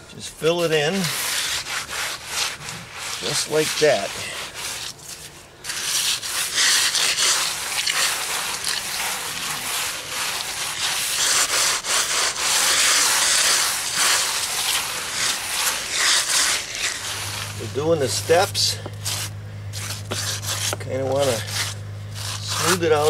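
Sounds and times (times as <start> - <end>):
sponge float rubbing wet mortar: 0.4 - 23.0.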